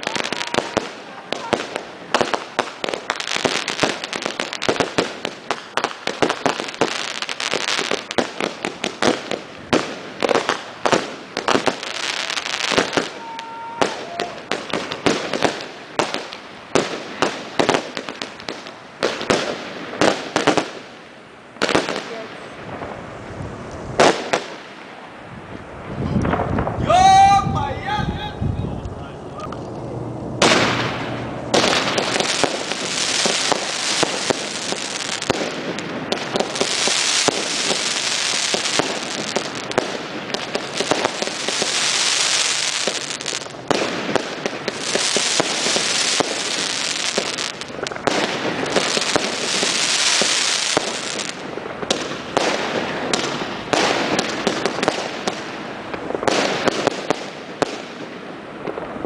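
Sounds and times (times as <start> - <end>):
fireworks popping and crackling: 0.0 - 26.8, 28.8 - 59.0.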